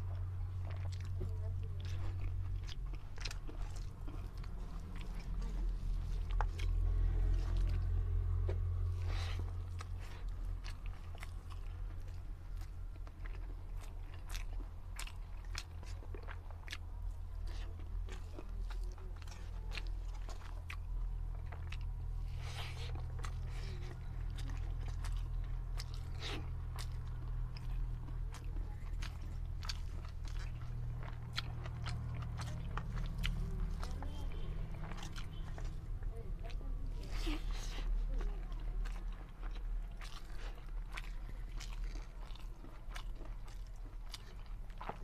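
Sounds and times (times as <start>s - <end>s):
person chewing food: 0.0s - 45.0s
steady low hum: 0.0s - 45.0s.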